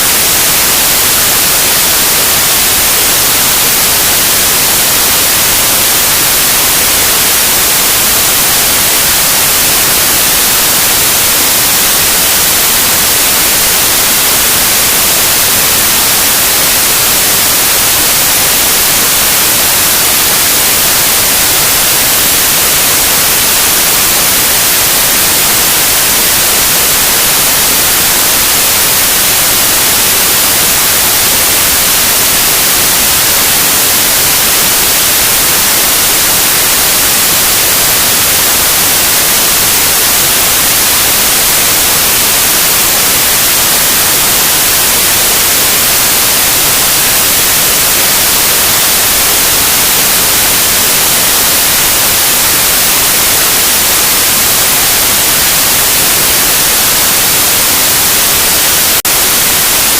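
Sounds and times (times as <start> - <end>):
electronic white noise: 0.0 - 59.9.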